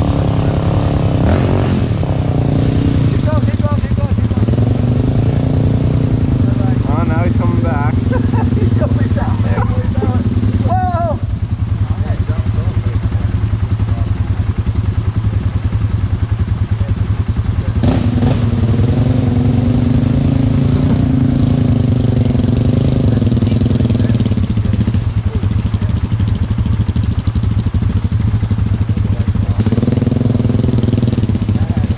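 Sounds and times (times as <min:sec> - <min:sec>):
quad bike engine revving: 0:00.0 - 0:31.9.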